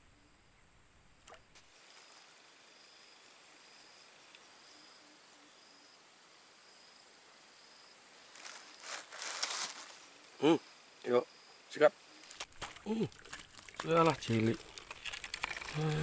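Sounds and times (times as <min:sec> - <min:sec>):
insects trilling: 0:00.1 - 0:16.0.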